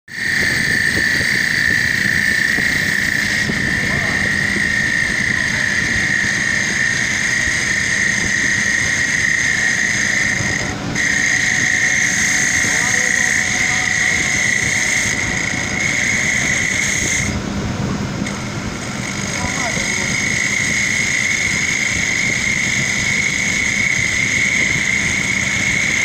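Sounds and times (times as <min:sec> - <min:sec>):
wood cutting rush: 0:00.1 - 0:17.5, 0:18.1 - 0:26.0
lathe whine: 0:00.1 - 0:26.0.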